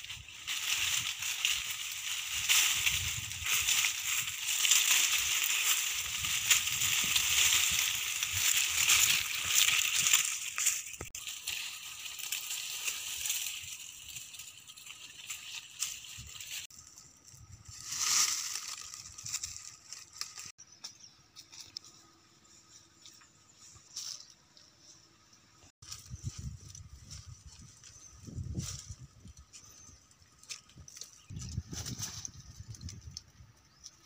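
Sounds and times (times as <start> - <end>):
dry leaves and twigs crackling: 0.0 - 34.0.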